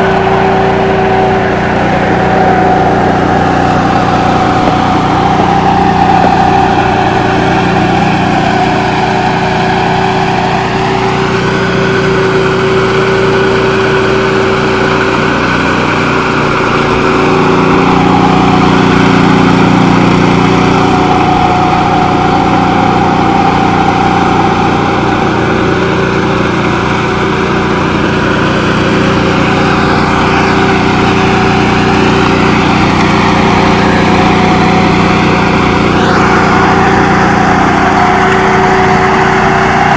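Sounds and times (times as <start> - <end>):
power trowel engine droning: 0.0 - 39.9.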